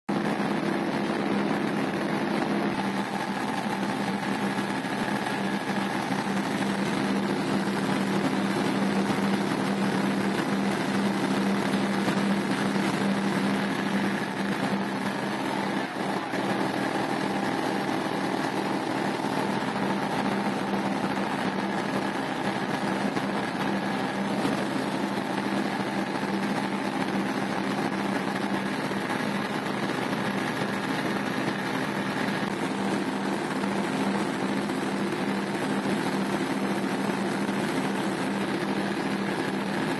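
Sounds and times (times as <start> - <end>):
aircraft engine droning in cabin: 0.1 - 39.9.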